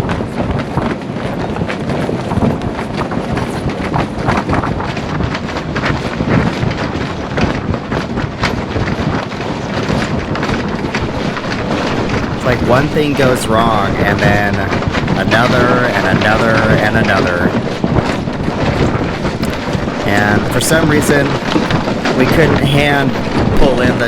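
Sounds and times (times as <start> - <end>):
clattering and knocks: 0.0 - 24.0
wind buffeting microphone: 0.0 - 24.0.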